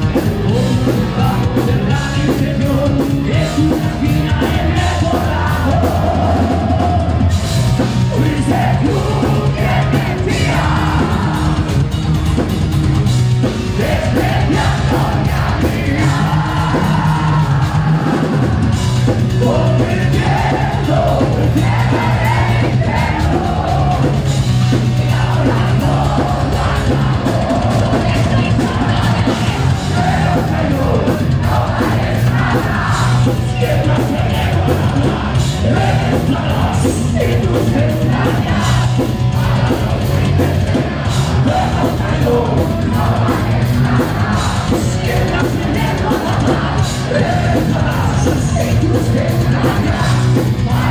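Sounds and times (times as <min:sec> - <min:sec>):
bass guitar: 0:00.0 - 0:50.9
distorted electric guitars: 0:00.0 - 0:50.9
drum kit: 0:00.0 - 0:50.9.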